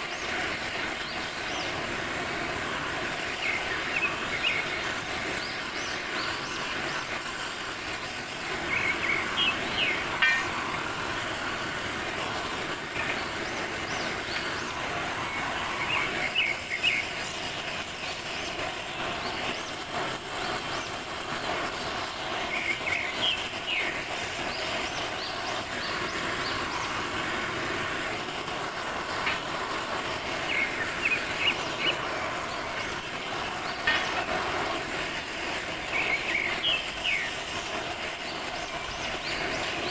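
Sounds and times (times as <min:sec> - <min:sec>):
cutting torch flame hissing: 0:00.0 - 0:39.9.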